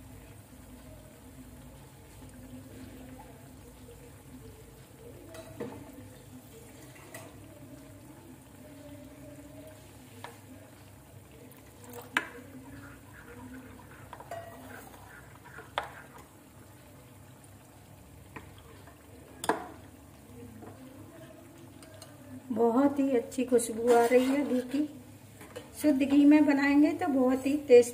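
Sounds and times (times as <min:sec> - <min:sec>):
frying sizzle: 0:00.0 - 0:27.9.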